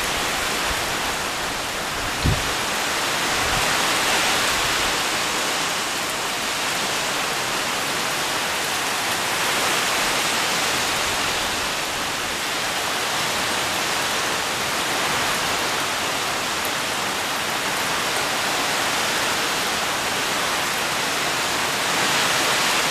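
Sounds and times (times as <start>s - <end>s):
heavy rain on leaves: 0.0s - 22.9s.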